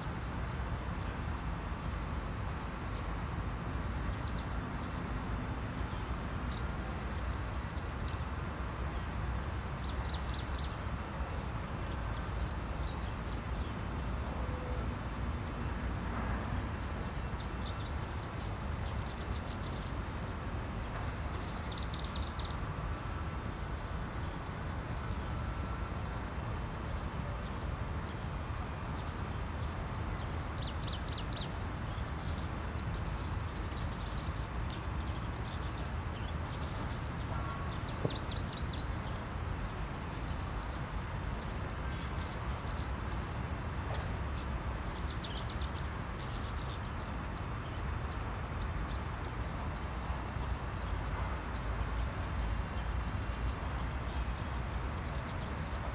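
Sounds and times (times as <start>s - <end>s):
low rumble and hiss: 0.0s - 55.9s.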